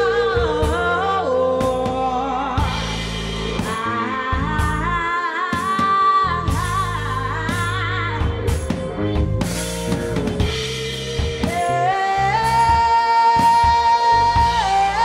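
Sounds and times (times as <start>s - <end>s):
woman singing with vibrato: 0.0s - 9.3s, 10.5s - 15.0s
bass guitar: 0.0s - 15.0s
drums: 0.0s - 15.0s.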